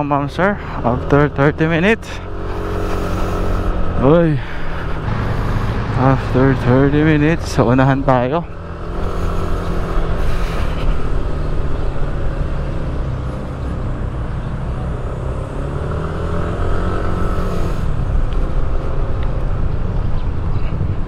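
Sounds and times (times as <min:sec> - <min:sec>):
motor scooter engine rumble: 0:00.0 - 0:21.0.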